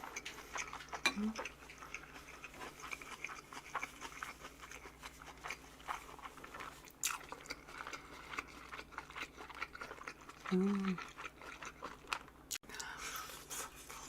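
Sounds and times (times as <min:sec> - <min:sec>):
wet chewing with crisp crunches: 0:00.0 - 0:14.0.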